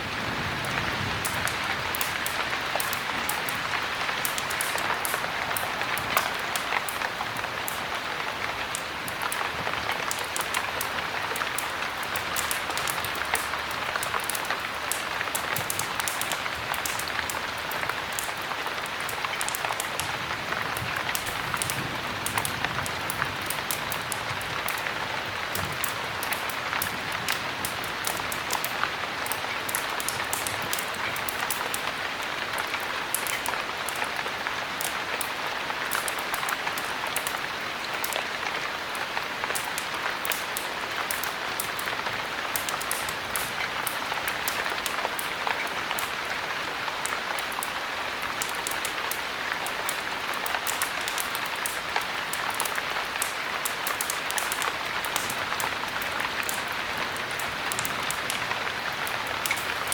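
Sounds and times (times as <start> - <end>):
heavy rain: 0.0 - 59.9
sharp ticks of raindrops: 0.0 - 59.9.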